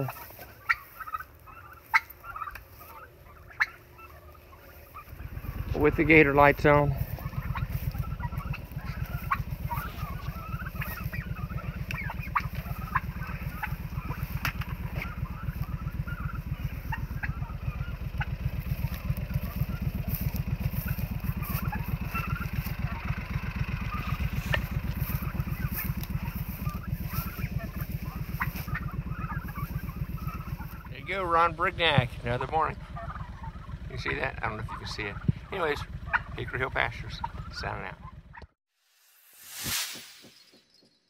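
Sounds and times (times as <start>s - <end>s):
turkeys calling and peeping: 0.0s - 38.6s
vehicle engine idling: 0.0s - 38.6s.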